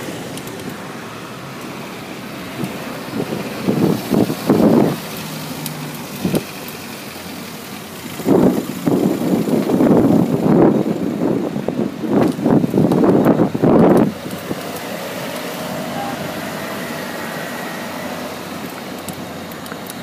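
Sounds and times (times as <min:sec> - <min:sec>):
city street traffic: 0:00.0 - 0:20.0
loud rumbling bursts: 0:00.0 - 0:20.0.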